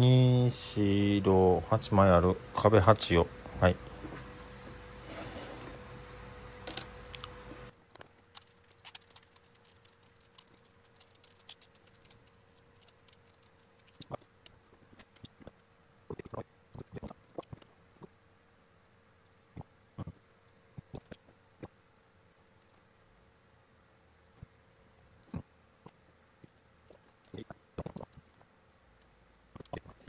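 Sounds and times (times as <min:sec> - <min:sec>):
background hiss with hum: 0:00.0 - 0:30.0.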